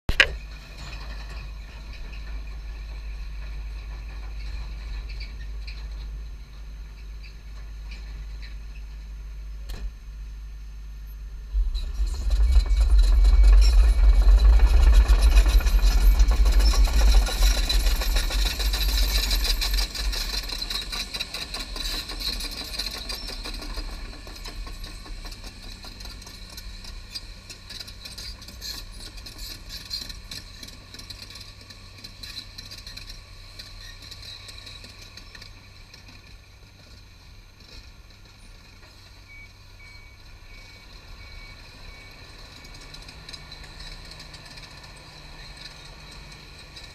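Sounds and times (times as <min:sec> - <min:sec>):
excavator diesel engine rumbling: 0:00.1 - 0:46.9.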